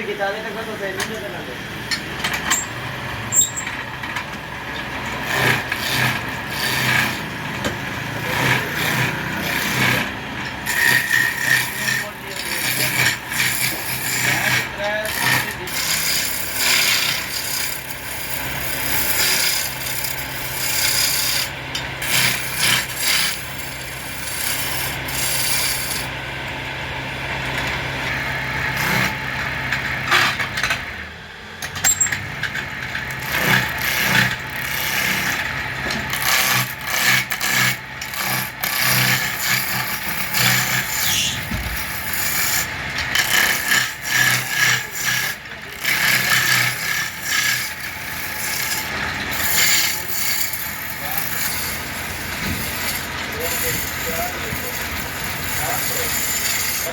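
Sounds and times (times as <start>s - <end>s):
wood lathe humming: 0.0s - 31.6s, 32.2s - 56.9s
turning tool scraping wood: 1.9s - 26.2s, 27.4s - 31.0s, 31.9s - 56.9s.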